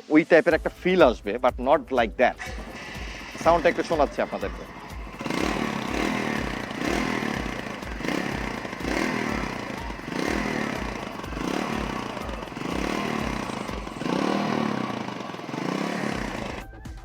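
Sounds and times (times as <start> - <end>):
motorcycle engine running: 2.1 - 16.9.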